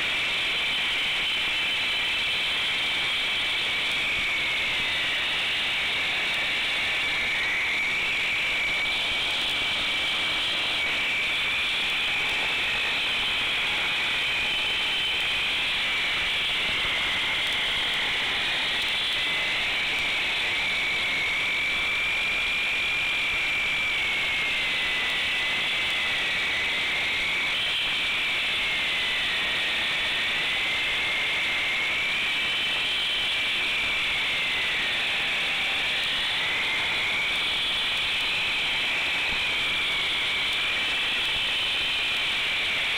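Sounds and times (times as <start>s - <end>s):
concrete saw cutting concrete: 1.6s - 42.9s.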